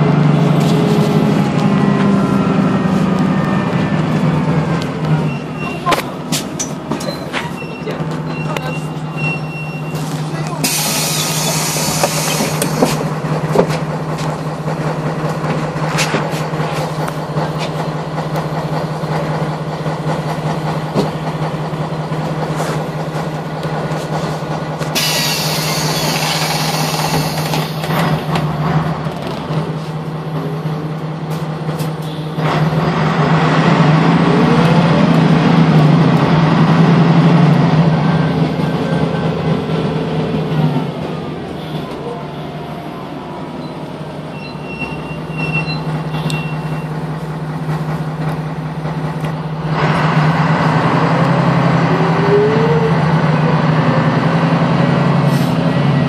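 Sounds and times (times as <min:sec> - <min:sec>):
bus engine hum: 0:00.0 - 0:56.0.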